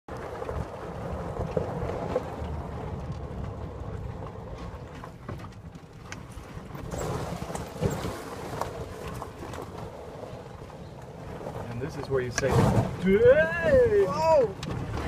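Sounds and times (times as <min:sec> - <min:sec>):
golf cart driving: 0:00.1 - 0:15.0
knocks and rattles over gravel: 0:00.1 - 0:15.0
wind rumbling on microphone: 0:00.1 - 0:15.0.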